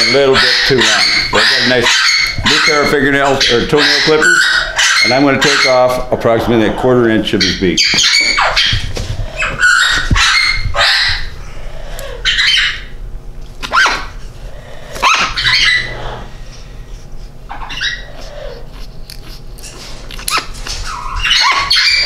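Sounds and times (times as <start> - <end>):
parrot squawking: 0.0 - 13.0, 13.6 - 16.4, 17.5 - 18.8, 20.2 - 22.0.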